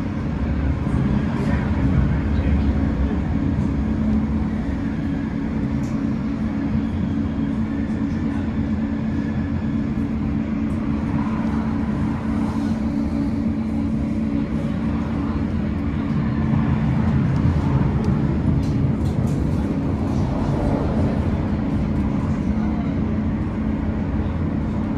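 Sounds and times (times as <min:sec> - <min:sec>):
low drive hum: 0:00.0 - 0:24.9
tram wheels rumbling on rails: 0:00.0 - 0:24.9.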